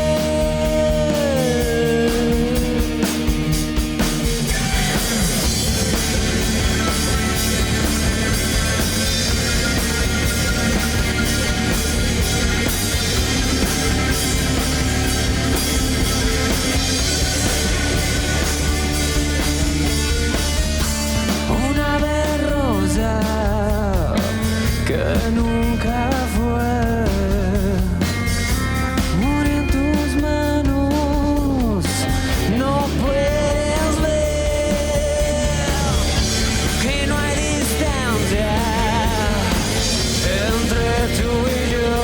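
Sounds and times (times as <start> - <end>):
distorted electric guitar: 0.0 - 42.0
drum kit: 0.0 - 42.0
rock band playing: 0.0 - 42.0.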